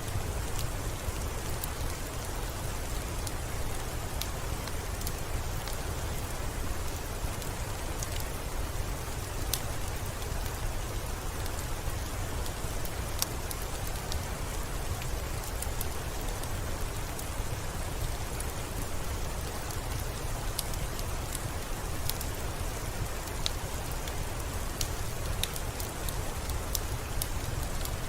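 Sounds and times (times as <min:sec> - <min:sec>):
soft rain hiss: 0:00.0 - 0:28.0
wood fire crackling: 0:00.0 - 0:28.0.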